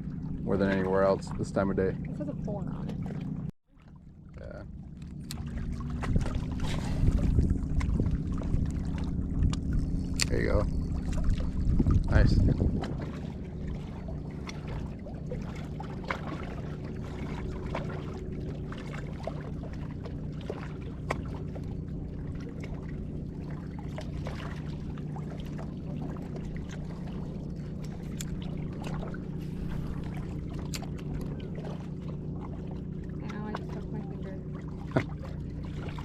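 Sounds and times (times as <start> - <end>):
steady low hum: 0.0 - 36.0
water trickling and lapping: 0.0 - 36.0.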